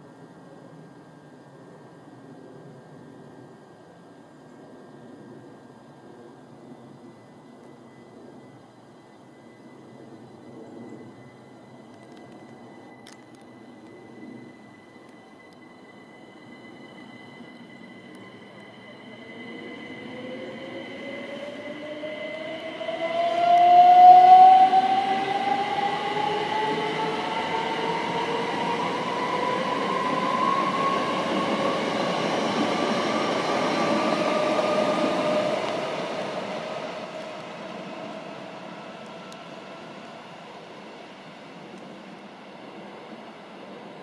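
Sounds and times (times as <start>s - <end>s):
electric train traction motors whining: 6.9s - 44.0s.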